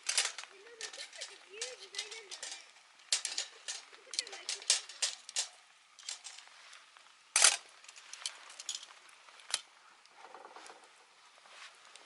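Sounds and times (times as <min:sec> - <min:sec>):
cooking gear clicking and clattering: 0:00.0 - 0:11.2.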